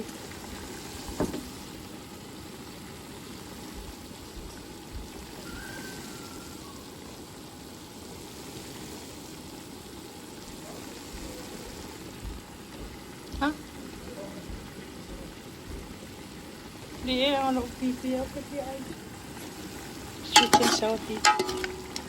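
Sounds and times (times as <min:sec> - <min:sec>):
steady water-like hiss: 0:00.0 - 0:22.0.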